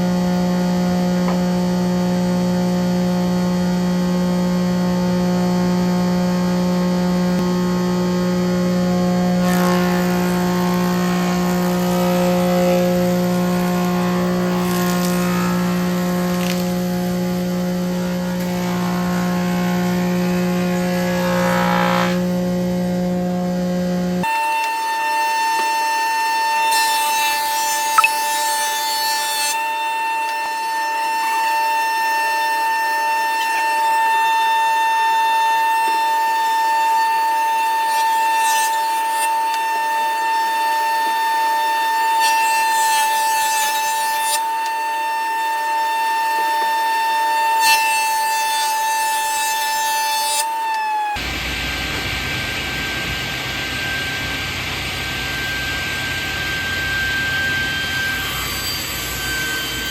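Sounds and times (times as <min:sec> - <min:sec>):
power saw cutting wood: 0:00.0 - 0:59.9.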